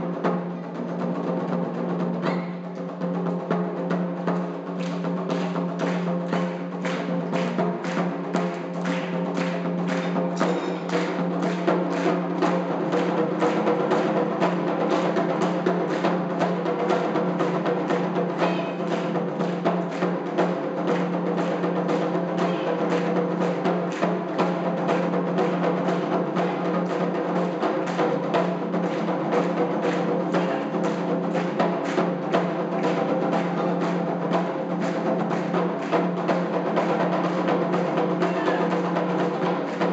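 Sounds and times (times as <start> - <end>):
taiko drums rapid rhythm: 0.0 - 39.9.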